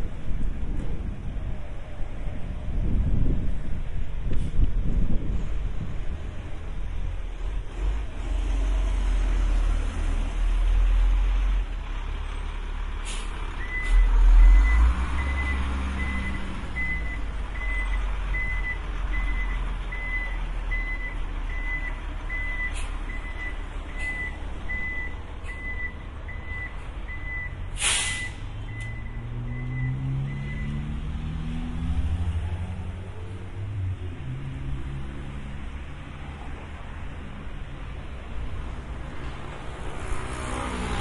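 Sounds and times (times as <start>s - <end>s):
road traffic with heavy vehicles: 0.0s - 41.0s.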